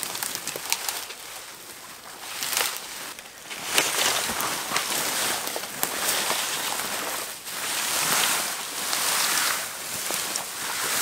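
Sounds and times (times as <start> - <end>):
rushing forest ambience: 0.0 - 11.0.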